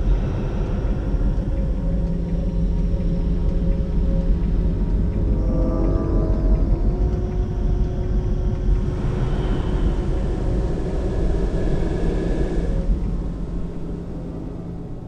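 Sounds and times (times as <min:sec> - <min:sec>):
deep steady rumble: 0:00.0 - 0:15.0.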